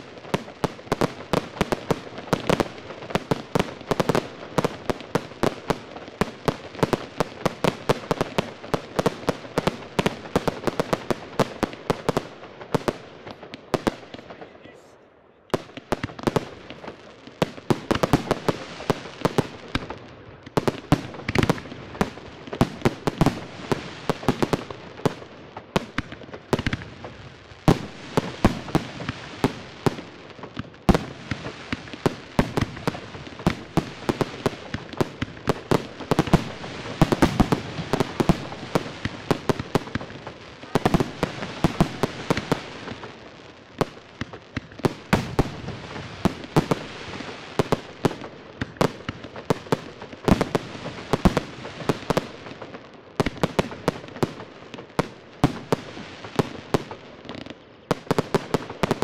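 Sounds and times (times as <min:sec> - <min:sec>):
fireworks launching and bursting: 0:00.0 - 0:59.0.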